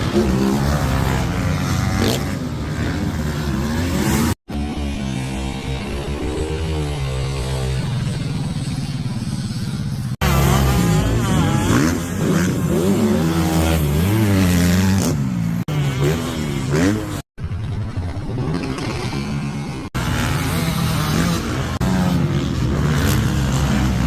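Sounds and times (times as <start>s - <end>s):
racing engines revving: 0.0s - 17.2s, 18.1s - 24.0s.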